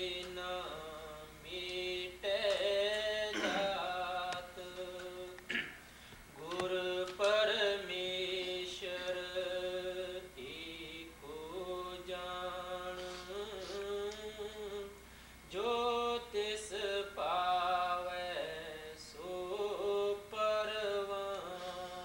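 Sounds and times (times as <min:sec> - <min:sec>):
person singing a hymn slowly: 0:00.0 - 0:22.0.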